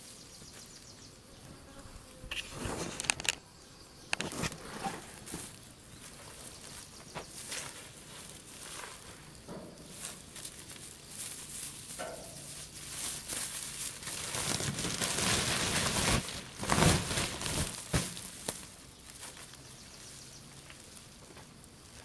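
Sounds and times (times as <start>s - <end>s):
leaves and stalks rustling: 4.1s - 22.0s.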